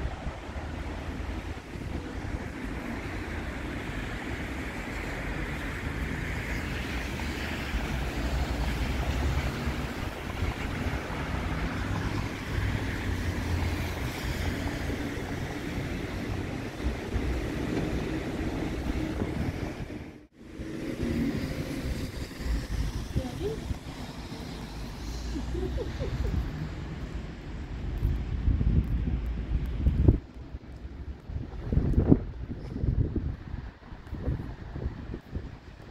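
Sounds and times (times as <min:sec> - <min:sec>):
street traffic: 0:00.0 - 0:35.9
wind buffeting microphone: 0:00.0 - 0:35.9.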